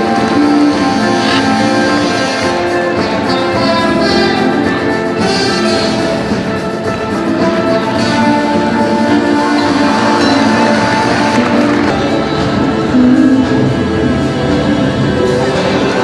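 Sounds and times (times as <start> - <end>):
orchestral background music: 0.0 - 16.0.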